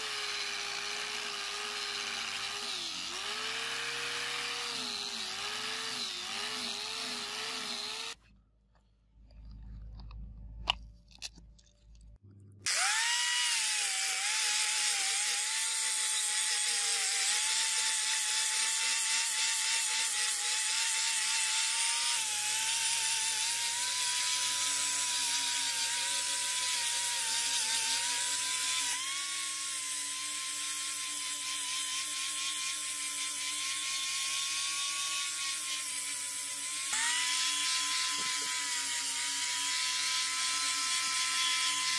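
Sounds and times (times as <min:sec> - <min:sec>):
angle grinder whine: 0:00.0 - 0:08.2, 0:12.7 - 0:41.9.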